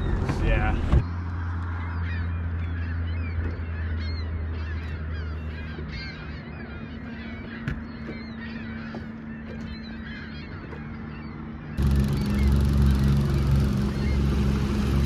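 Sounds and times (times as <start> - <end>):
low steady motor hum: 0.0 - 15.0
flock of birds calling: 1.4 - 15.0.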